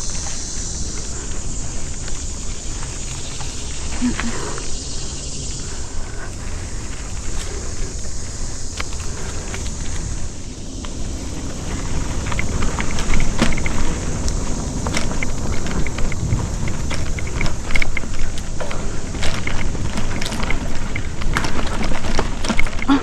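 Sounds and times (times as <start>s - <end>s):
bike clicks and rattles: 0.0s - 23.0s
mountain bike rumbling on dirt: 0.0s - 23.0s
wind on microphone: 0.0s - 23.0s.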